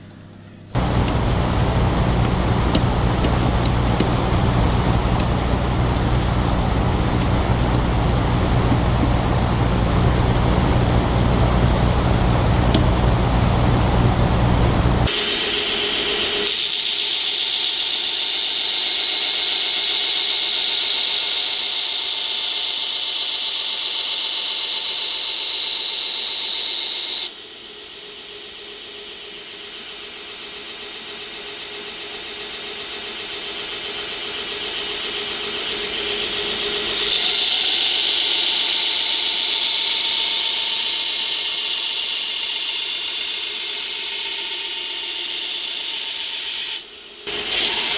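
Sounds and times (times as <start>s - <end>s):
belt grinder motor hum: 0.8s - 30.5s, 33.8s - 47.9s.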